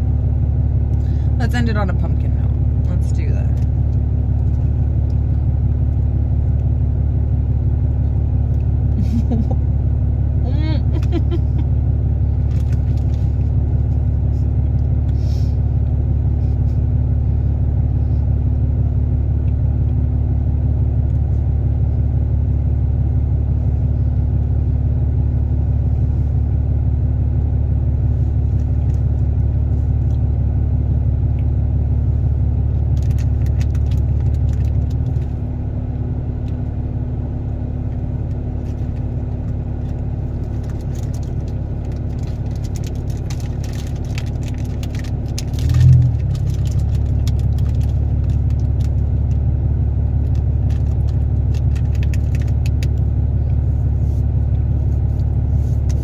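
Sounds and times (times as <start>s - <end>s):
constant hum: 0.0s - 56.0s
low rumble: 0.0s - 56.0s.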